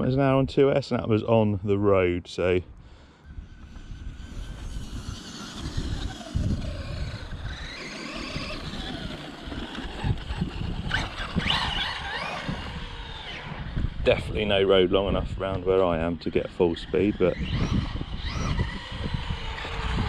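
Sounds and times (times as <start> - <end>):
electric motor whine: 3.2 - 20.0.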